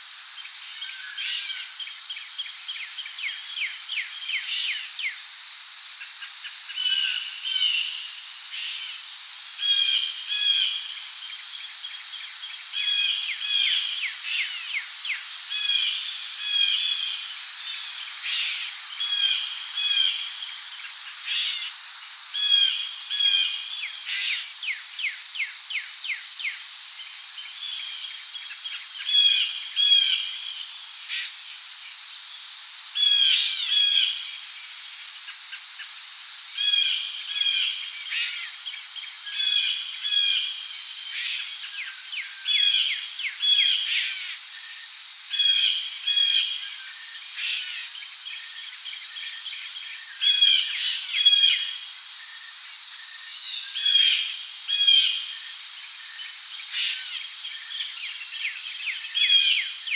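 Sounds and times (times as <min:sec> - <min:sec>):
crickets chirping: 0:00.0 - 0:59.9
high insect drone: 0:00.0 - 0:59.9.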